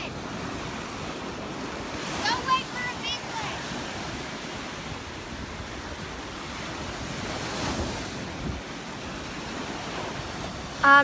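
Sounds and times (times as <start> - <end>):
surf washing onto beach: 0.0 - 11.0
wind on microphone: 0.0 - 11.0.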